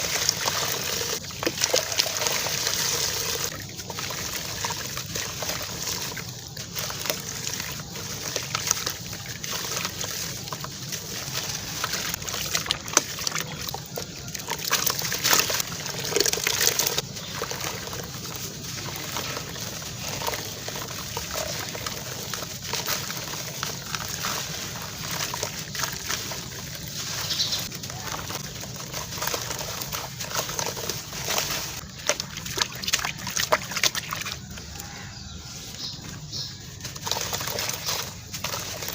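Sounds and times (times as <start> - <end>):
cement chunks crunching: 0.0 - 38.9.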